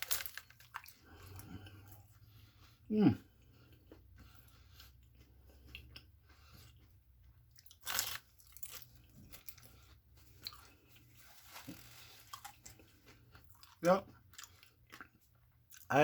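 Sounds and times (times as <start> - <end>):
chewing crunchy fried pastry: 0.0 - 16.0.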